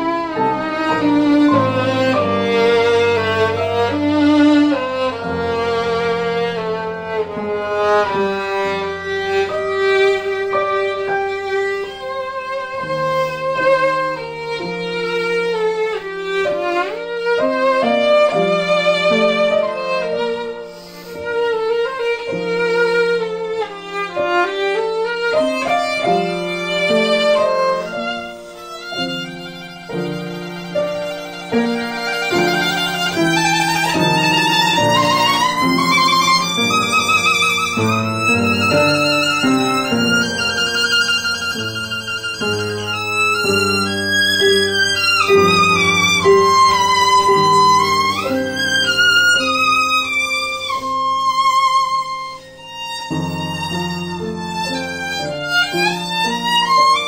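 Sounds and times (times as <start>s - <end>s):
piano accompaniment: 0.0s - 57.0s
violin melody with vibrato: 0.0s - 57.0s.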